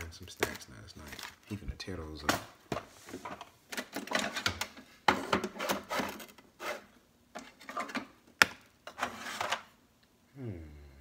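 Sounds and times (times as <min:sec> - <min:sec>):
objects rustling and clattering: 0:00.0 - 0:09.8.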